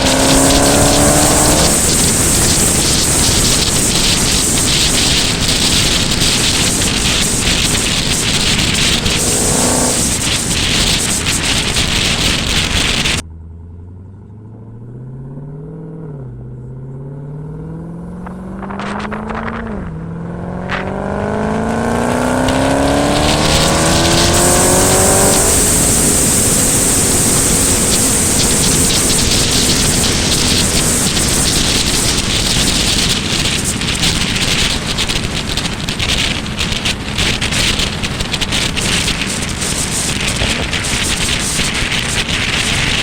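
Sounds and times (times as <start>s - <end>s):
rushing wind and road noise: 0.0s - 13.2s, 15.3s - 43.0s
car engine idling and revving: 0.0s - 43.0s.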